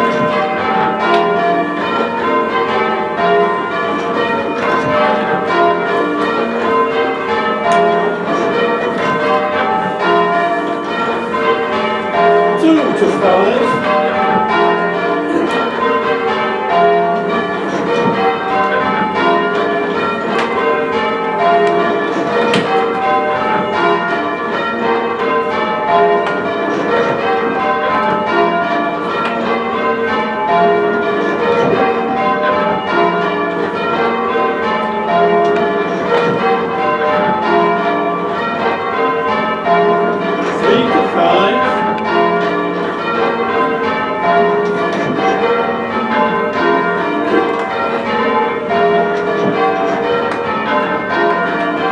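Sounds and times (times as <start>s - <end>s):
church bells change ringing: 0.0s - 51.9s.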